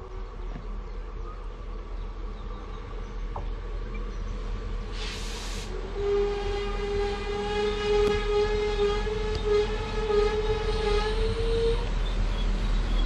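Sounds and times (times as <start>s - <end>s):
train noise: 0.0s - 13.0s.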